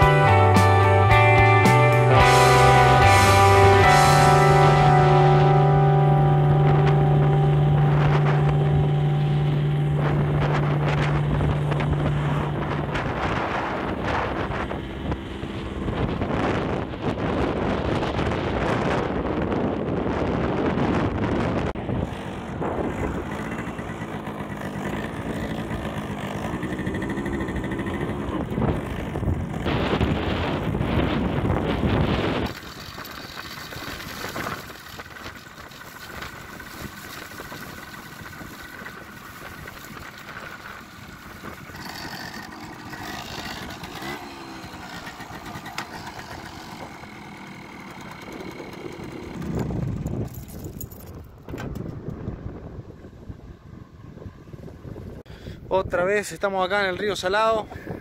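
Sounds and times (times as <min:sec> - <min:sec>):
motorcycle engine running: 0:00.0 - 0:55.3
wind noise on microphone: 0:00.0 - 0:58.0.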